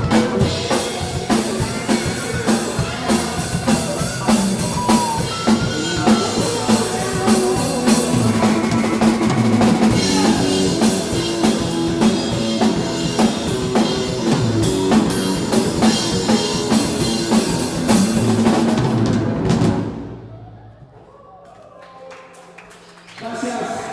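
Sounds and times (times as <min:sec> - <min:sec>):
live rock band playing: 0:00.0 - 0:20.2.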